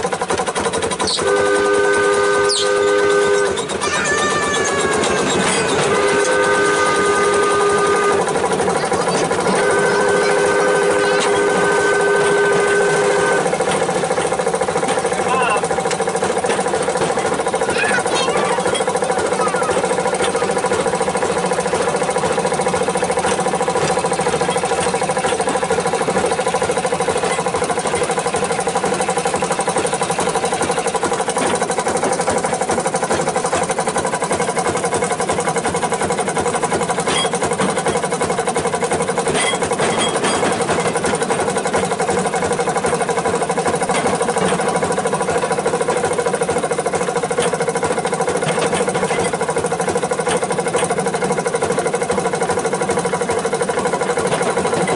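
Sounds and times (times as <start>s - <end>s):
rail vehicle engine running: 0.0s - 54.9s.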